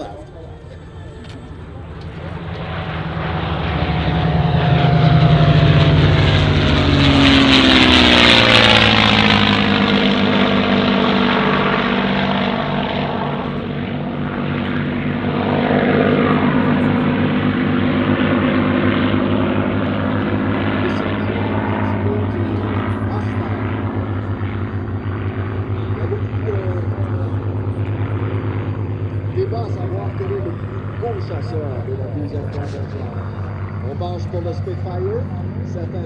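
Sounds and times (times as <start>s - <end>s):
propeller planes droning past: 0.0s - 36.0s.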